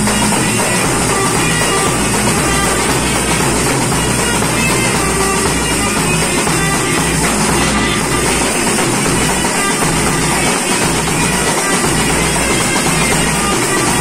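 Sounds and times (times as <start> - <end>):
clarinets playing melody: 0.0 - 14.0
side drums and bass drum: 0.0 - 14.0.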